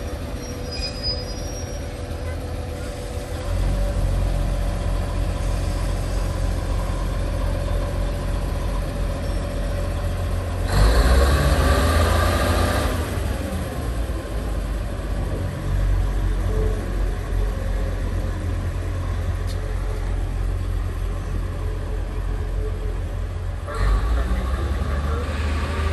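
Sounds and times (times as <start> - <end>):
diesel railcar engine humming: 0.0 - 25.9.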